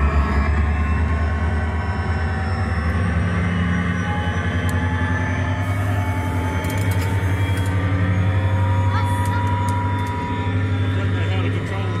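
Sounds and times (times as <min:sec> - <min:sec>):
low mechanical rumble and hum: 0:00.0 - 0:12.0.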